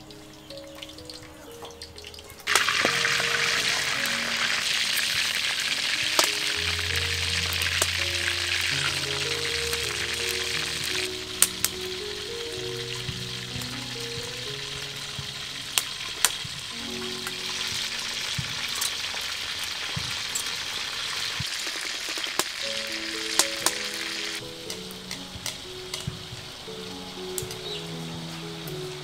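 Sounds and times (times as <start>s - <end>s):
soft background music: 0.0s - 20.4s, 22.6s - 29.0s
fish sizzling: 0.0s - 29.0s.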